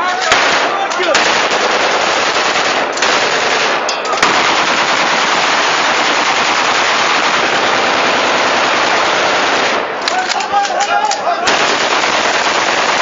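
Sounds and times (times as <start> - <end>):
rifle gunfire: 0.1 - 10.8, 11.4 - 13.0.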